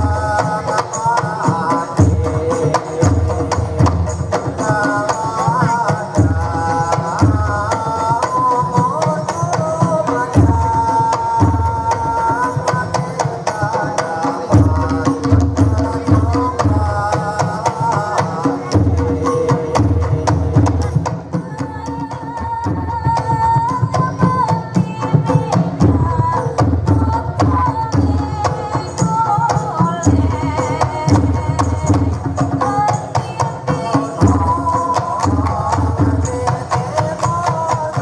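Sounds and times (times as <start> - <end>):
frame drums beating fast rhythm: 0.0 - 38.0.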